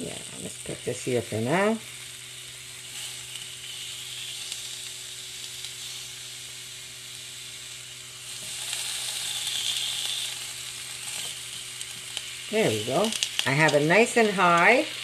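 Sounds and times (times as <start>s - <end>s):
vegetables sizzling on grill: 0.0s - 15.0s.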